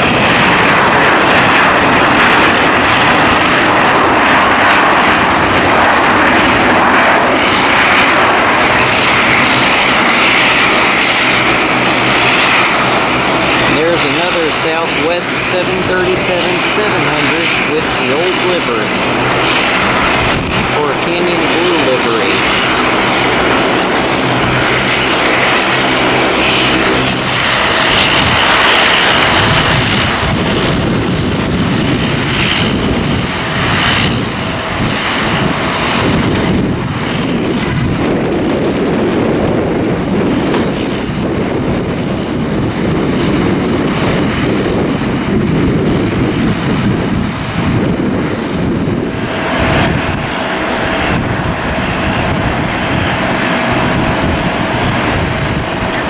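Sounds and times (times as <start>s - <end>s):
jet engines roaring: 0.0s - 56.0s
wind buffeting microphone: 0.0s - 56.0s.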